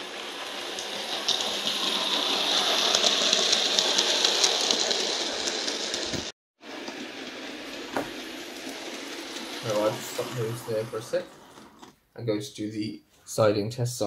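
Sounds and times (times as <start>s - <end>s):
model train whirring rattle: 0.0s - 11.9s.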